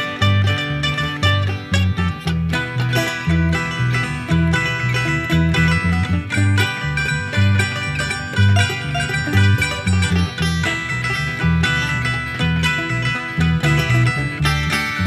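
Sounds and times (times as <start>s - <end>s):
bass line: 0.0s - 15.0s
plucked strings: 0.0s - 15.0s.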